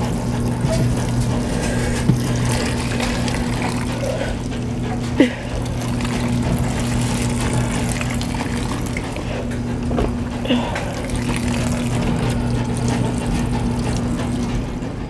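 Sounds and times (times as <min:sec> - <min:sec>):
washing machine filling with water: 0:00.0 - 0:15.0.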